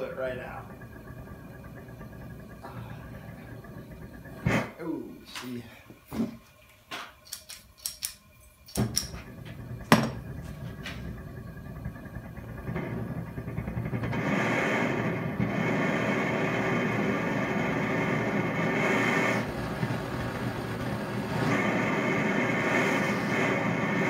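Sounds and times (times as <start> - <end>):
torch flame hissing: 0.0 - 6.4, 8.7 - 24.0.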